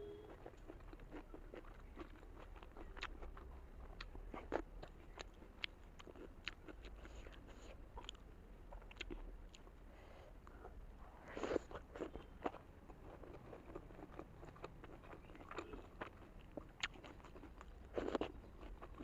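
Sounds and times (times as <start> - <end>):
person chewing: 0.2 - 9.8, 10.4 - 19.0.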